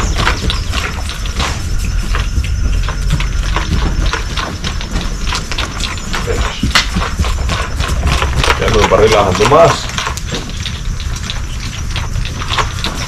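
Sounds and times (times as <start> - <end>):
hooves striking ground: 0.0 - 13.0
steady low rumble: 0.0 - 13.0.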